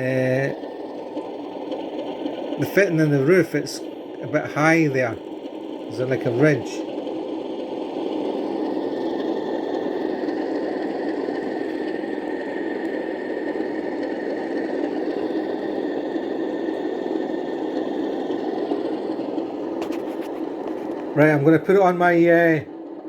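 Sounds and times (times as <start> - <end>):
model train engine hum: 0.0 - 23.0.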